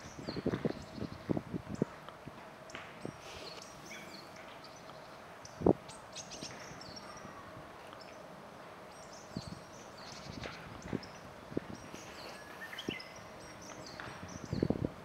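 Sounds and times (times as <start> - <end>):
small birds chirping: 0.0 - 2.0, 2.6 - 15.0.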